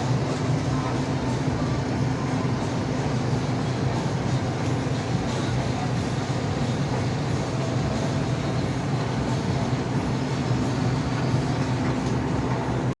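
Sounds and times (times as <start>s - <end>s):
industrial machine humming: 0.0s - 13.0s.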